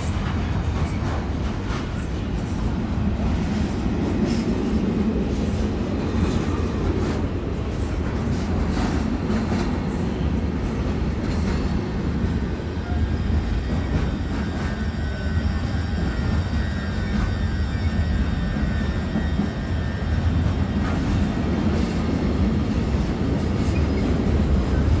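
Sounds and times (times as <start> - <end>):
train low rumble: 0.0 - 25.0.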